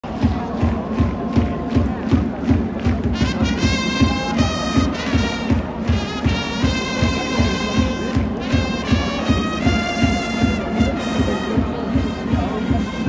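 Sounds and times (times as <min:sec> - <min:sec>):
large crowd noise: 0:00.0 - 0:13.0
stadium music with trumpets: 0:00.0 - 0:13.0
quick steady drumbeat: 0:00.1 - 0:13.0.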